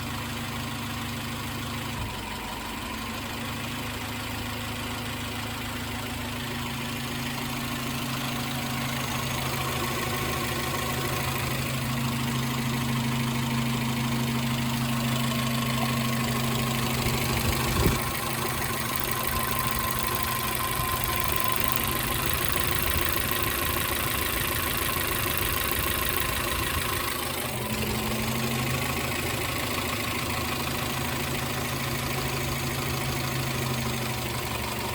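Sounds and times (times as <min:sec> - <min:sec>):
car engine idling with misfire: 0:00.0 - 0:34.9.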